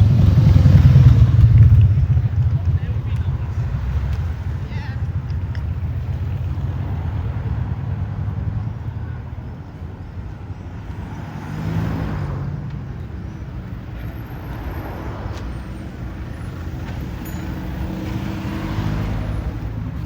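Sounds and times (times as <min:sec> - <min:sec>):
road traffic: 0:00.0 - 0:20.0
vehicle passing loudly: 0:00.0 - 0:20.0.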